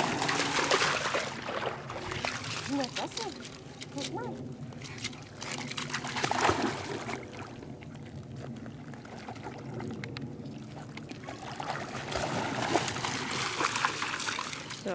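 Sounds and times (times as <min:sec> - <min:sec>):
dog swimming and splashing: 0:00.0 - 0:14.9
low steady hum: 0:00.0 - 0:14.9.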